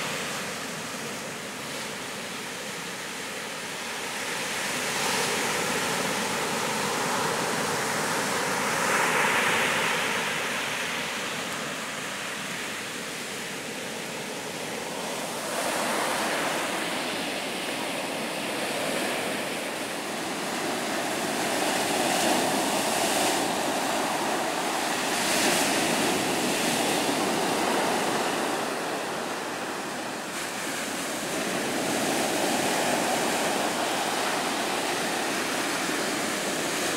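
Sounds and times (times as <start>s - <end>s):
surf breaking on sand beach: 4.0s - 36.9s.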